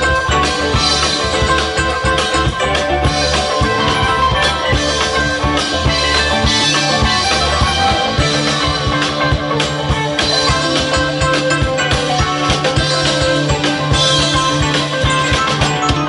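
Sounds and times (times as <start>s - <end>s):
drum kit beat: 0.0s - 16.0s
electric guitars: 0.0s - 16.0s
keyboard: 0.0s - 16.0s.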